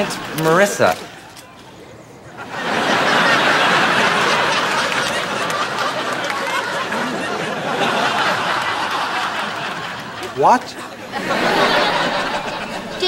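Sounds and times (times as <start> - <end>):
audience laughing: 2.3 - 13.0.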